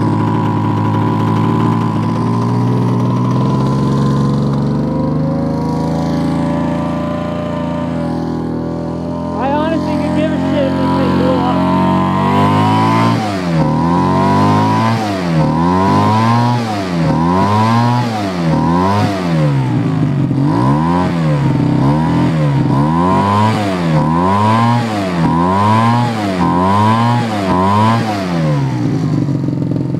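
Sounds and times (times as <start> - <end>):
small engine surging: 0.0 - 29.9.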